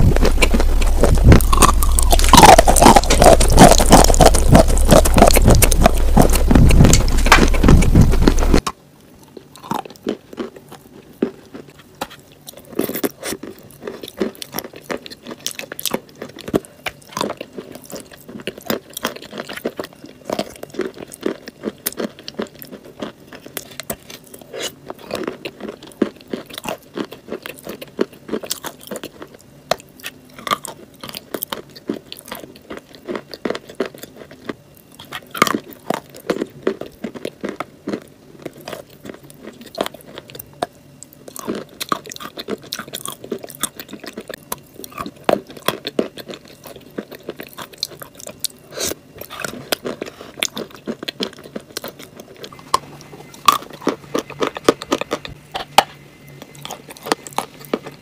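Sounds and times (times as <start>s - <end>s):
crunchy chewing mouth sounds: 0.0s - 58.0s.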